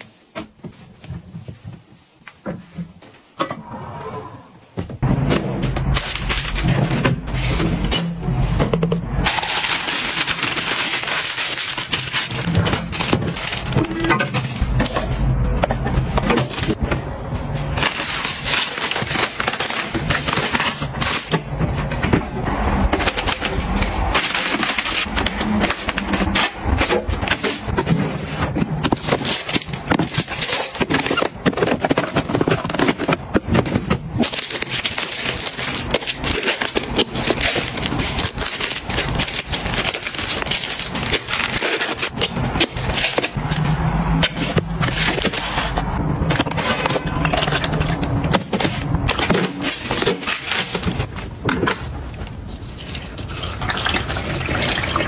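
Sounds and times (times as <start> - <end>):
items clicking and knocking: 4.8 - 53.0
plastic packaging crinkling: 5.7 - 15.4, 16.0 - 55.0.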